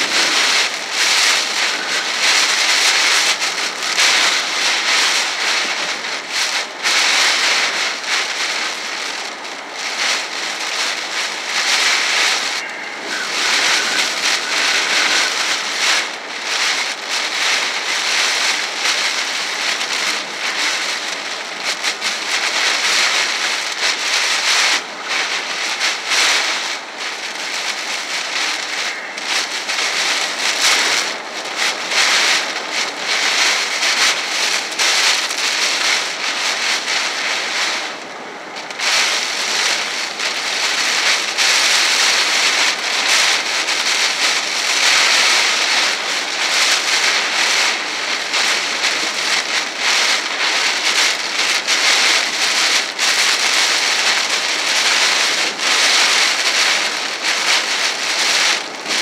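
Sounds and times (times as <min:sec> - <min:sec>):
heavy rain on car windshield: 0:00.0 - 0:59.0.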